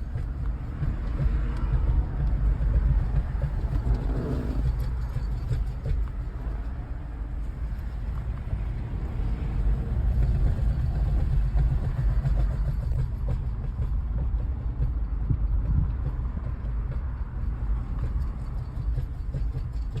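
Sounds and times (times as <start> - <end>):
car low rumble: 0.0 - 20.0.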